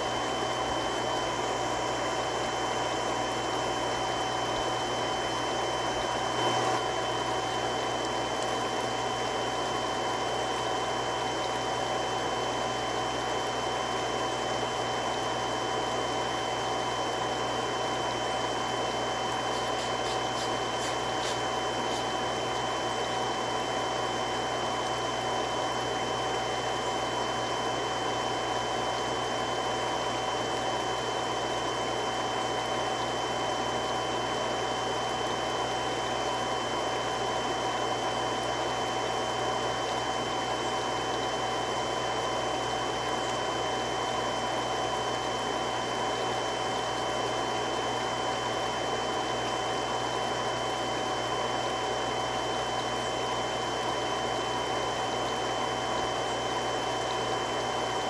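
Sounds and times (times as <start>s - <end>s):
water pump running: 0.0s - 58.0s.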